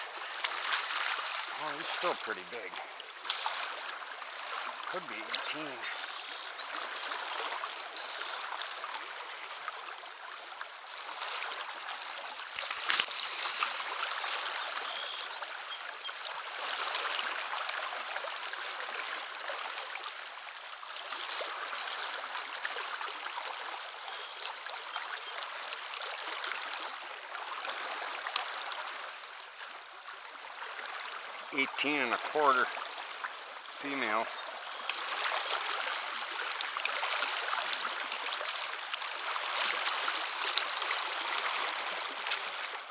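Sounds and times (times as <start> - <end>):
river current rushing: 0.0 - 42.9
small water splashes: 0.0 - 42.9.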